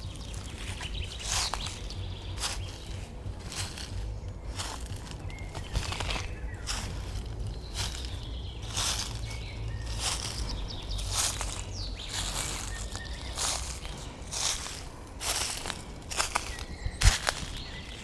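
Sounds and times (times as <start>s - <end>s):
low rumble: 0.0s - 17.9s
footsteps on forest path: 0.0s - 18.0s.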